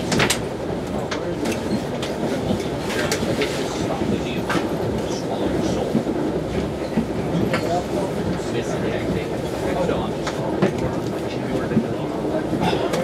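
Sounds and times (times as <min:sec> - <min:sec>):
train coach rumbling at speed: 0:00.0 - 0:13.0.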